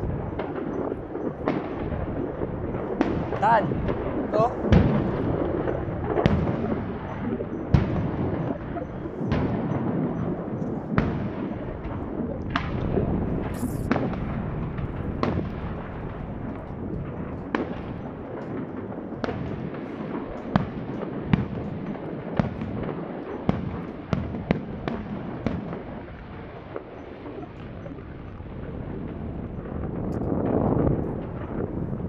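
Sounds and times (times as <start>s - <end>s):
steady low rumble: 0.0s - 23.0s, 27.5s - 32.0s
distant fireworks bangs: 0.0s - 32.0s.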